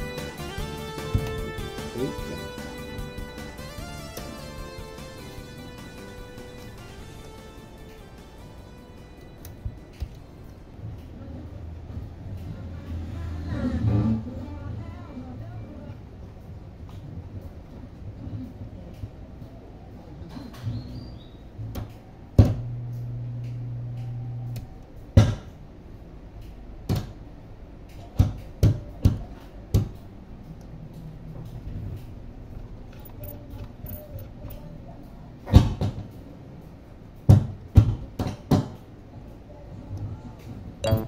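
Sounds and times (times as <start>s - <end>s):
low steady hum: 0.0s - 28.0s, 28.8s - 35.5s, 38.8s - 41.0s.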